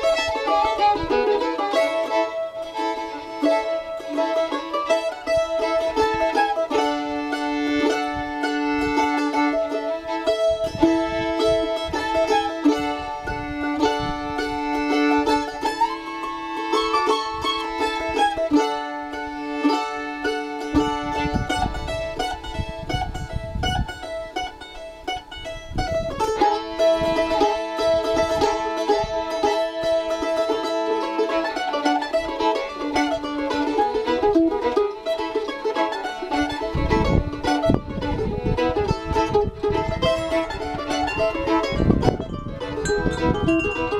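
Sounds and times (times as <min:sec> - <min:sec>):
fiddle playing long notes: 0:00.0 - 0:43.9
mandolin picking: 0:00.0 - 0:43.9.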